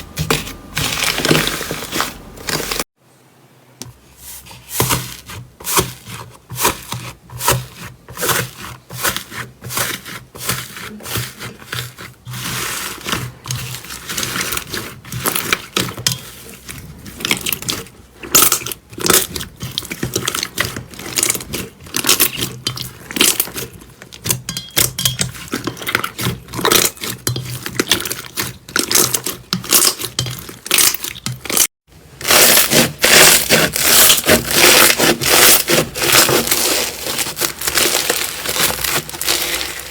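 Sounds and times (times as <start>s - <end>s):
slime crunching: 0.0s - 2.9s, 4.5s - 39.9s.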